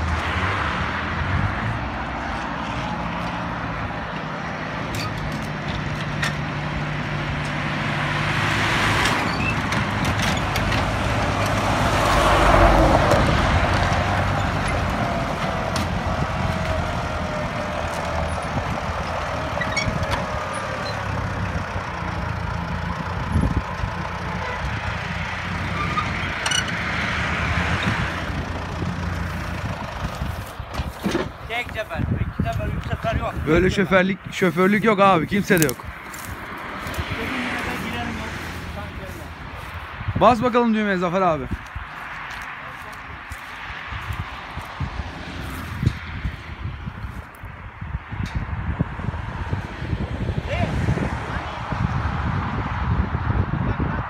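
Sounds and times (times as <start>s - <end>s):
tractor engine low drone: 0.0s - 54.0s.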